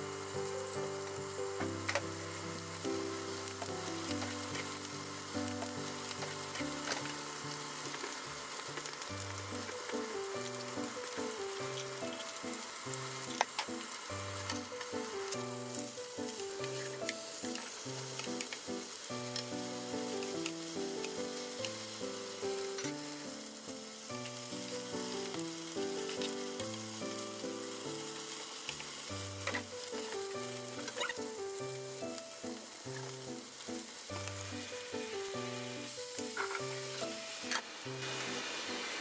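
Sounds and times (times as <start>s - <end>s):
background music with plucked notes: 0.0s - 39.0s
patties sizzling in oil: 0.0s - 39.0s.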